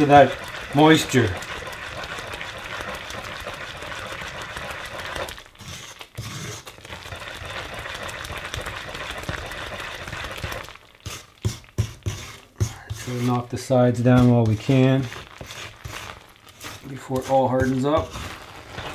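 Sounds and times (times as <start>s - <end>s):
wooden spoon scraping in a pot: 0.0s - 18.9s.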